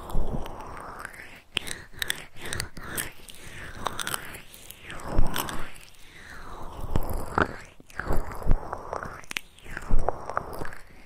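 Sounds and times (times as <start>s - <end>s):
close crackling and scratching: 0.0s - 11.0s.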